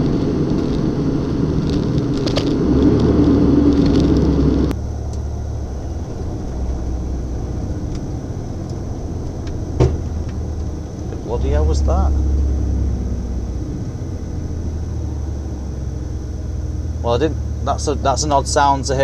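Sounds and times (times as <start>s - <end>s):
lorry engine rumble from cab: 0.0s - 19.0s.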